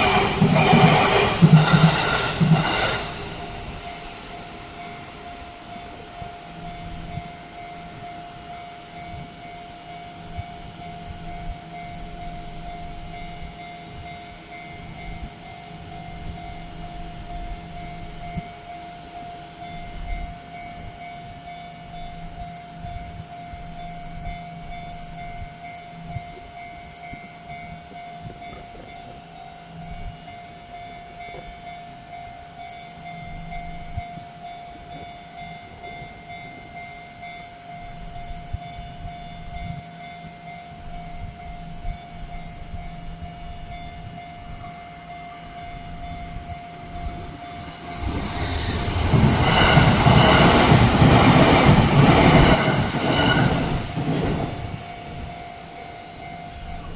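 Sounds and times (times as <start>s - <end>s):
level crossing warning bell: 0.0s - 56.9s
train rumble: 0.0s - 56.9s.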